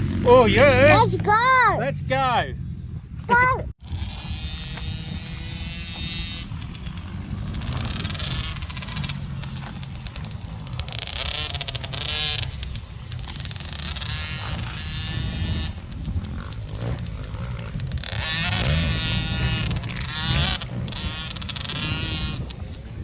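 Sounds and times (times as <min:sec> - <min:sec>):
dirt bike engine revving: 0:00.0 - 0:23.0
wind rumble on microphone: 0:01.9 - 0:23.0.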